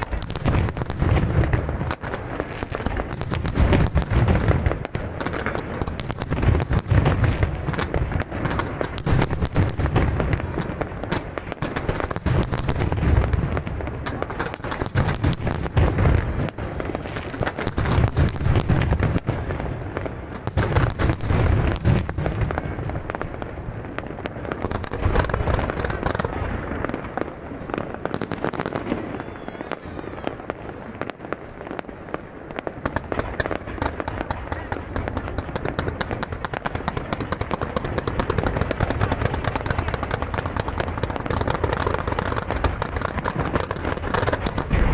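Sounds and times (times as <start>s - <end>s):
fireworks booming and crackling: 0.0s - 44.9s.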